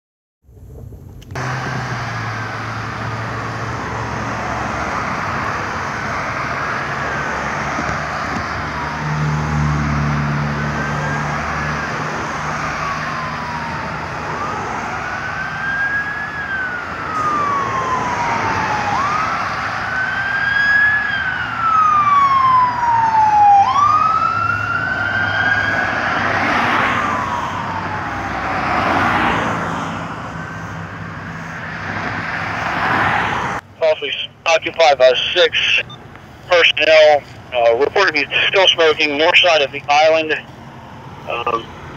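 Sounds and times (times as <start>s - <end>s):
road traffic hum: 0.4s - 41.9s
emergency siren wailing: 0.8s - 41.9s.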